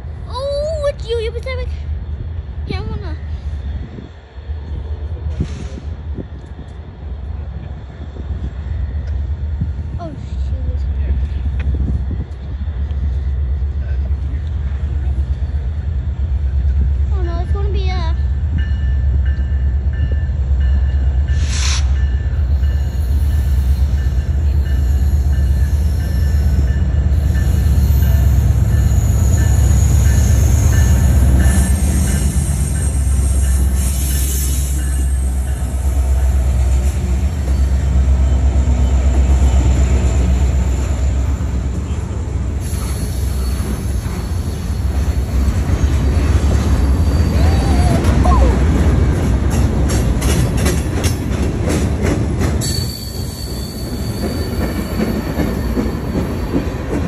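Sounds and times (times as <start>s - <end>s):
diesel locomotive rumble: 0.0s - 57.0s
freight train wheels on rails: 0.0s - 57.0s.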